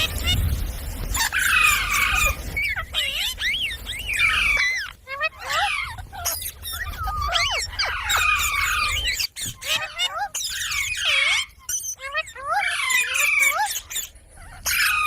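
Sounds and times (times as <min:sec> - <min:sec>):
parrot chirping and squawking: 0:00.0 - 0:15.0.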